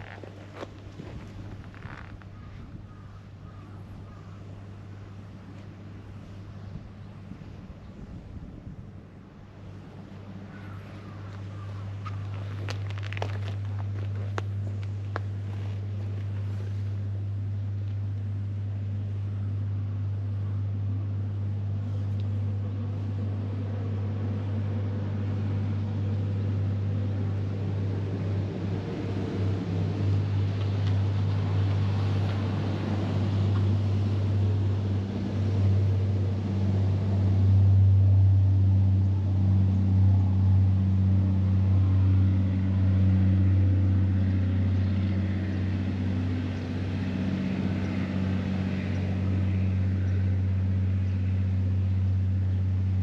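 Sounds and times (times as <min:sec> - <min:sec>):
traffic noise: 0:00.0 - 0:53.0.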